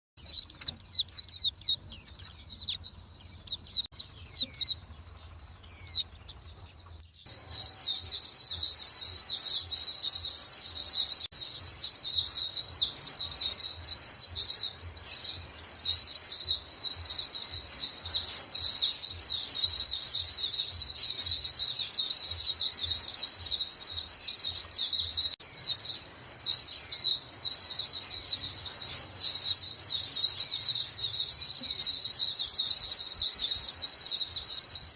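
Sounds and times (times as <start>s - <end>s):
flock of birds chirping: 0.2s - 34.9s.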